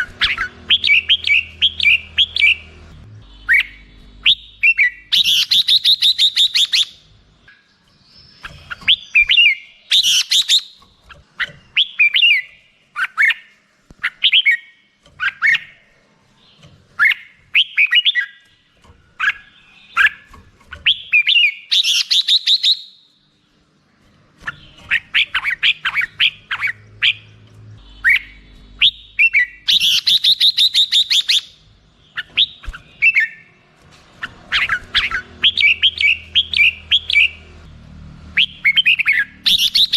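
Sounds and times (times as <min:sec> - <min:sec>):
bird rapidly repeated notes: 0:00.0 - 0:23.0, 0:24.2 - 0:37.4
bird singing warbled phrases: 0:00.0 - 0:39.9.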